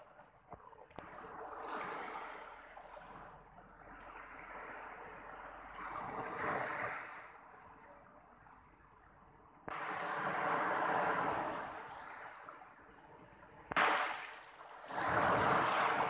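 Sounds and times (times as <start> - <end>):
waves washing onto beach: 0.0 - 8.2, 9.7 - 16.0.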